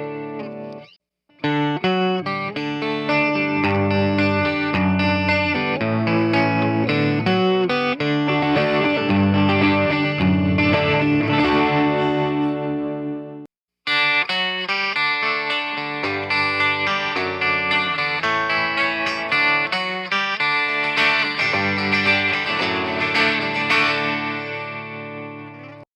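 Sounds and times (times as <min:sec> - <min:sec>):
electric guitar strumming chords: 0:00.0 - 0:25.8.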